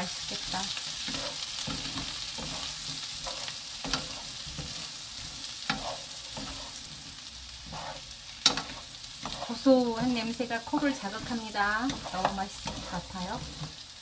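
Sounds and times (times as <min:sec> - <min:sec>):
food sizzling in oil: 0:00.0 - 0:14.0
wooden spatulas scraping pan: 0:00.3 - 0:13.9.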